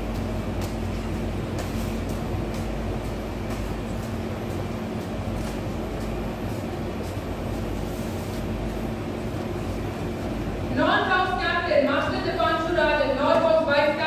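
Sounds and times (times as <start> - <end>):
low rumble with hum: 0.0 - 14.0.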